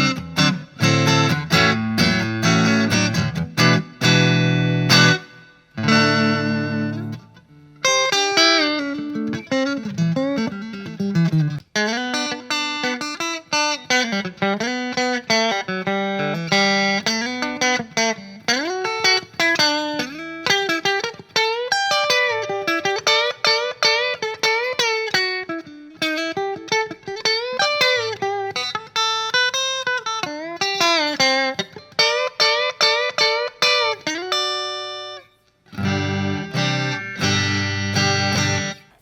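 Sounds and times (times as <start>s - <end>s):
electric guitar lead lines: 0.0s - 39.0s
electric guitar strummed chords: 0.0s - 39.0s.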